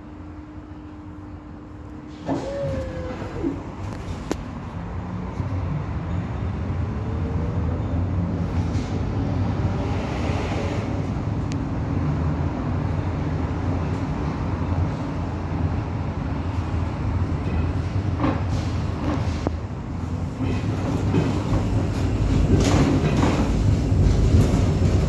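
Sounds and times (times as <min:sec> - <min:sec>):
tram motors and wheels rumbling: 0:00.0 - 0:25.0.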